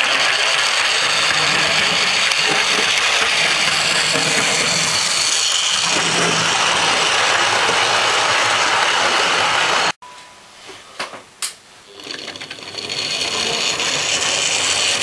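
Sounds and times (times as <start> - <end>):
model train wheels rattling on track: 0.0 - 9.9, 11.9 - 15.0
model train motor whirring: 0.0 - 10.0, 11.9 - 15.0.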